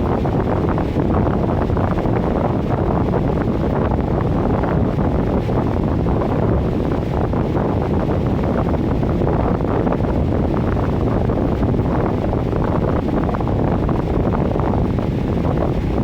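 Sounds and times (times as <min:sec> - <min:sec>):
furnace blower running: 0:00.0 - 0:16.0.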